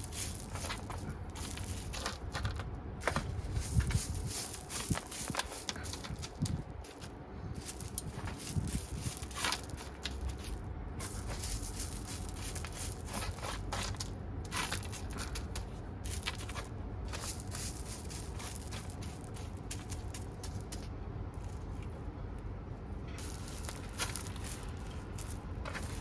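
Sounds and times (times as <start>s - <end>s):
soil crunching and scraping: 0.0s - 26.0s.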